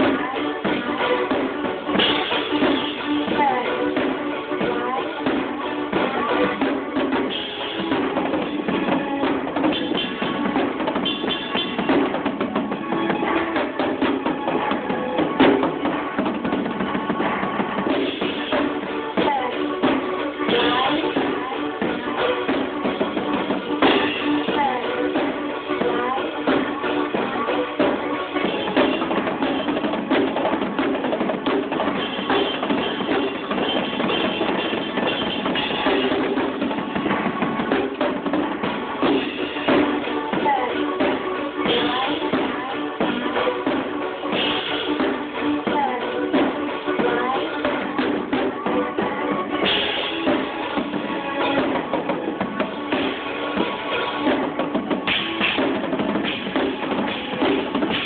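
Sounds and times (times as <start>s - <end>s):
drum kit rapid hits: 0.0s - 58.0s
music with pitched instruments: 0.0s - 58.0s.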